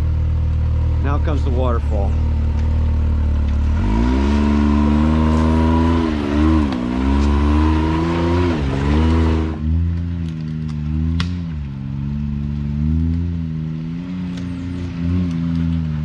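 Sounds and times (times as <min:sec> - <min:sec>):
utv engine revving: 0:00.0 - 0:16.0.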